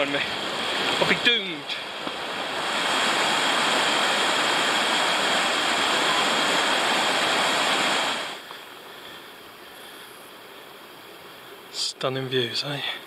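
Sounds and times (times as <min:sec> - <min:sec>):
stream rushing over rocks: 0:00.0 - 0:11.8
quiet steady hiss: 0:00.0 - 0:13.0.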